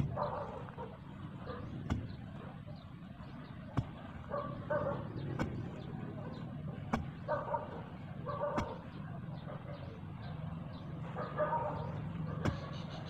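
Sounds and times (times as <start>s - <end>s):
distant dog barking: 0.0s - 13.0s.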